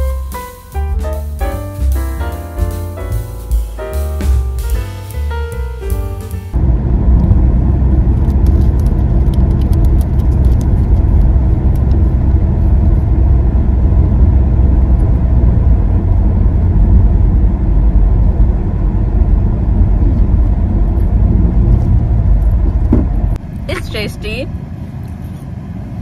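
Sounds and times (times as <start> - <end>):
car cabin rumble: 0.0 - 25.4.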